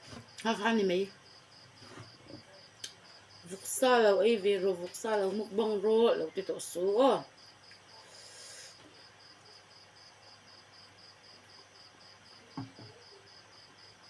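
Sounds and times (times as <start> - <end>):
insect chirping: 0.2 - 14.0.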